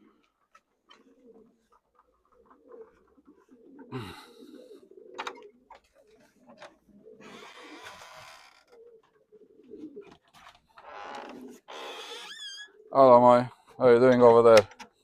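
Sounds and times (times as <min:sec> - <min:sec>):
pigeons cooing: 0:00.0 - 0:11.7, 0:12.6 - 0:13.7.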